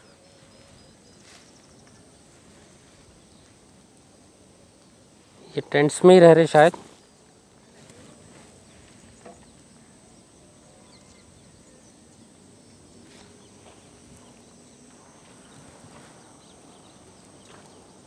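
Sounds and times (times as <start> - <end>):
faint bird chirps: 0.0 - 3.6, 6.9 - 18.0
steady high-pitched hum: 0.0 - 18.0.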